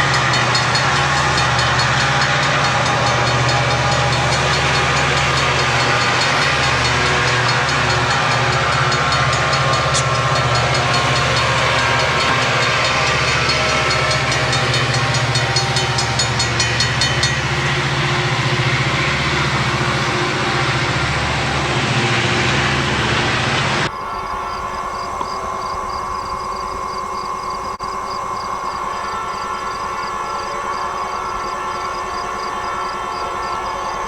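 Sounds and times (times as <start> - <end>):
freight train rumbling: 0.0 - 34.0
wheels clicking over rails: 0.0 - 34.0.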